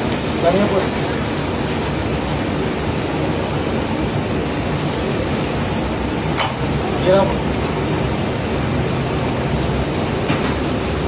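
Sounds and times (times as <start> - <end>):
chicken frying in oil: 0.0 - 3.8, 4.6 - 11.0
gas burner running: 0.0 - 11.0.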